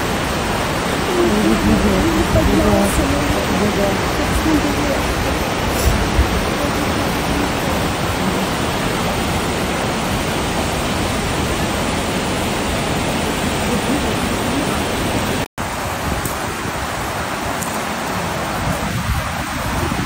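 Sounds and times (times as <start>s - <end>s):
large waterfall rushing: 0.0s - 20.0s.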